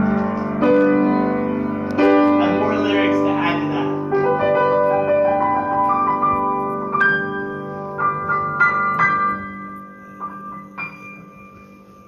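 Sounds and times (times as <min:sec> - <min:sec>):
grand piano played slowly: 0:00.0 - 0:12.0.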